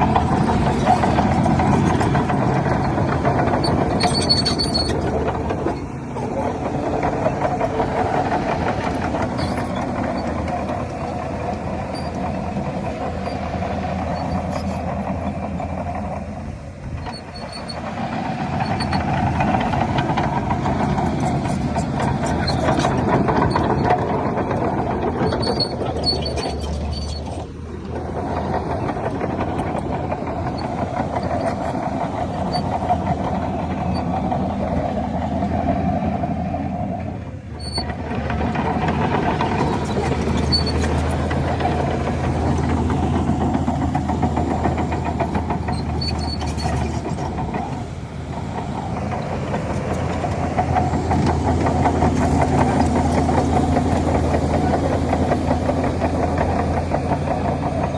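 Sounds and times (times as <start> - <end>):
heavy machinery diesel engines: 0.0 - 57.9.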